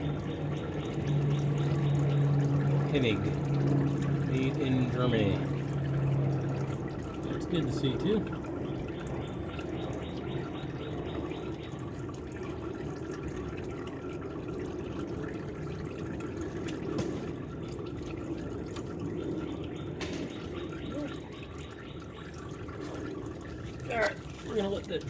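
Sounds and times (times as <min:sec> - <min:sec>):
oil pouring: 0:00.0 - 0:25.0.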